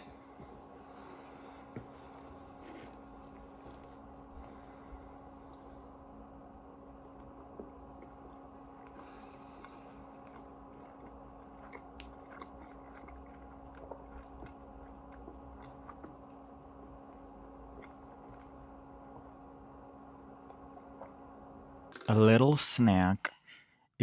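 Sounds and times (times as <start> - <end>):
person chewing food: 0.0 - 19.3
steady low hum: 0.0 - 24.0.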